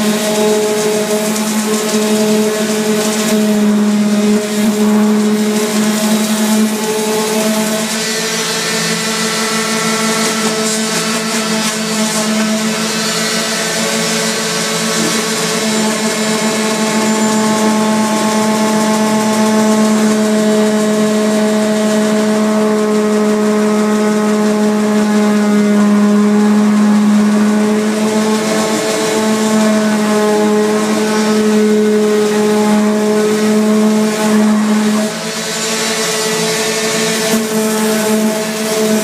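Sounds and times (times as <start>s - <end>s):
electric sander humming: 0.0s - 39.0s.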